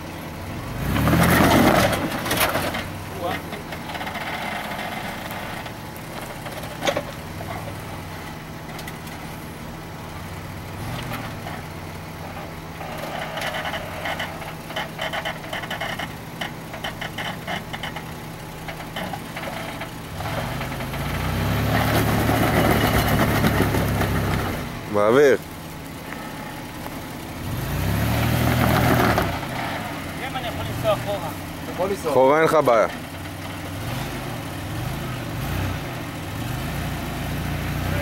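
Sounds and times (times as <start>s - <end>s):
suv engine idling and revving: 0.0s - 38.0s.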